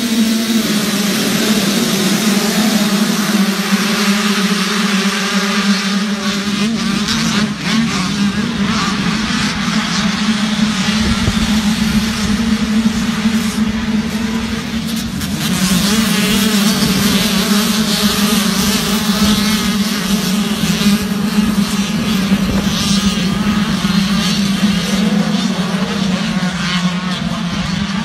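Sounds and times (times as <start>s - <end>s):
motocross bikes revving: 0.0s - 28.0s
steady low drone: 0.0s - 28.0s.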